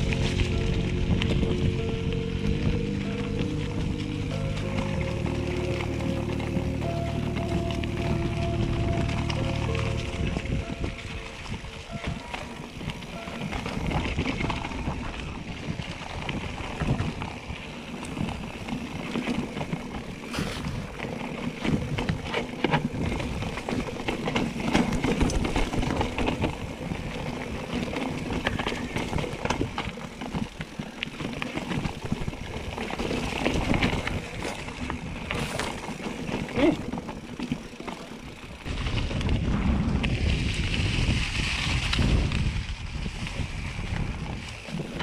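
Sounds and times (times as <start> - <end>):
wind rumble on microphone: 0.0 - 37.2, 38.2 - 45.0
tyres crunching on dirt and stone: 0.0 - 43.2
bike rattling clicks: 0.0 - 45.0.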